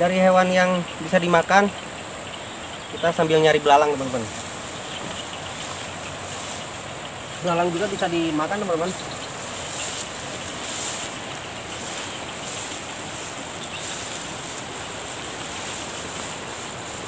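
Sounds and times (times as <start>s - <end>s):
high-pitched insect chorus: 0.0s - 17.0s
footsteps through tall grass: 3.0s - 17.0s.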